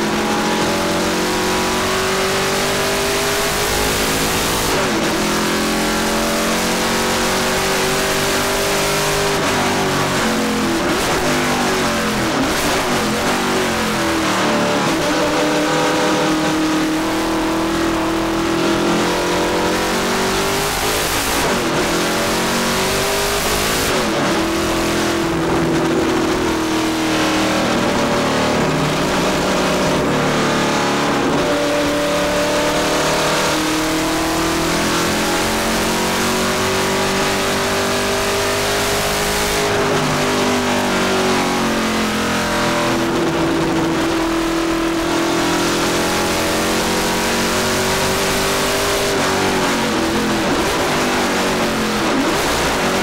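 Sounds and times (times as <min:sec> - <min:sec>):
racing engine accelerating: 0:00.0 - 0:53.0.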